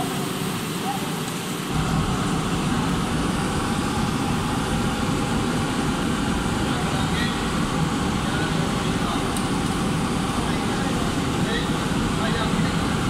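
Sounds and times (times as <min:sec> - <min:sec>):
burner fan running: 0:00.0 - 0:13.0
gas flame igniting with rumble: 0:00.0 - 0:13.0.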